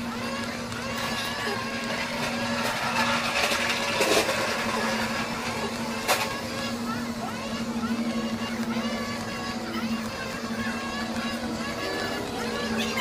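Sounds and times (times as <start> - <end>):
electric motor humming and whining: 0.0 - 13.0.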